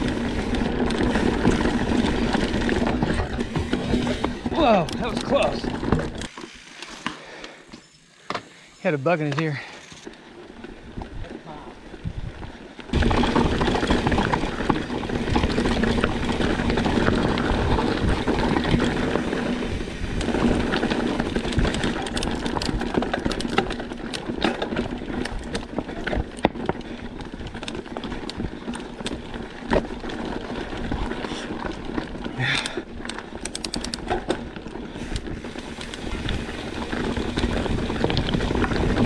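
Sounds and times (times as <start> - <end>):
bike rattling: 0.0 - 39.0.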